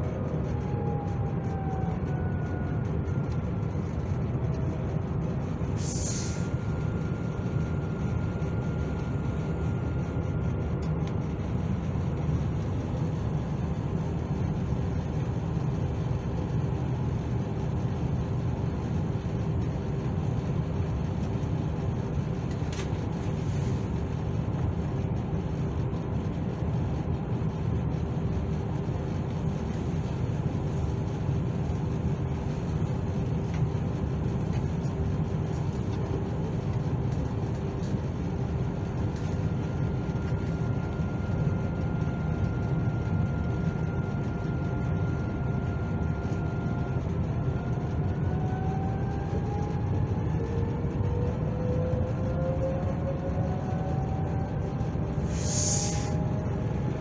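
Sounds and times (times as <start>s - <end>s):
faint constant hum: 0.0s - 57.0s
train rumbling: 0.0s - 57.0s.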